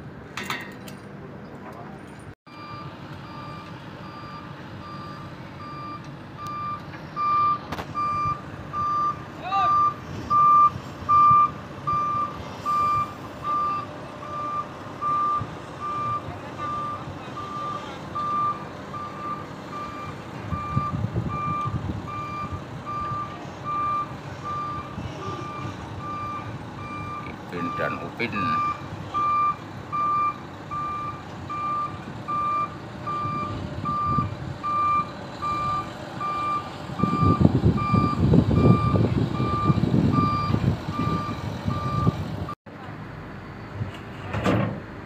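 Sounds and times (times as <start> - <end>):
diesel engine running: 0.0 - 45.0
reversing alarm beeping: 2.5 - 42.2.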